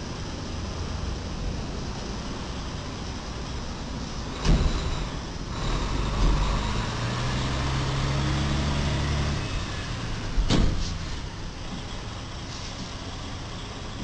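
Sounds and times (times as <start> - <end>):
diesel truck engine: 0.0 - 14.0.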